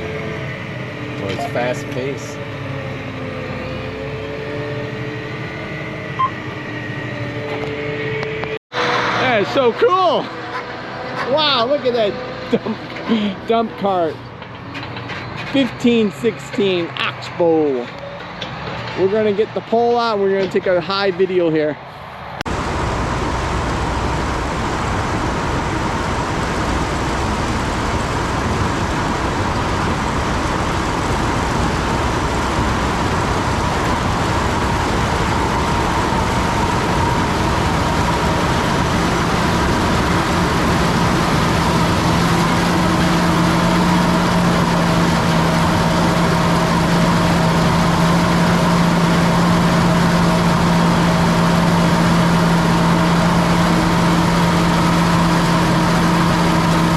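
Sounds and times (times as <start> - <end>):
farm machinery engines running: 0.0 - 4.0, 4.9 - 21.9, 22.5 - 56.9
low engine hum: 0.0 - 56.9.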